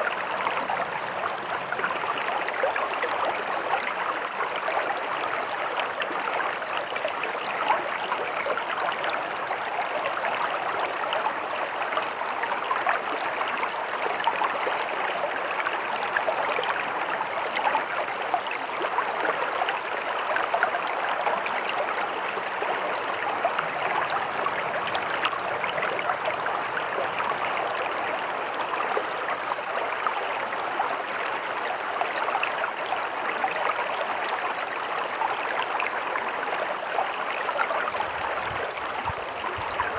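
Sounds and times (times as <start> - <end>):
stream water over rocks: 0.0 - 39.9.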